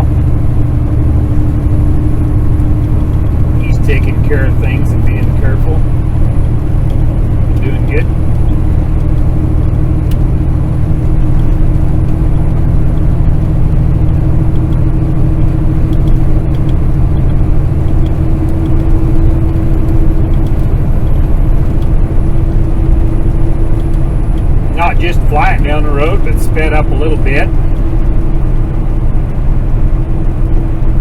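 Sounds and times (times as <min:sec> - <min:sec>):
road and tyre noise: 0:00.0 - 0:31.0
truck diesel engine drone: 0:00.0 - 0:31.0.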